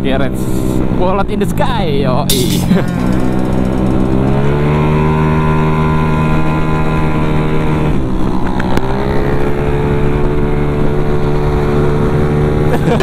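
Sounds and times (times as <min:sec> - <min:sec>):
scooter engine at high revs: 0:02.3 - 0:13.0.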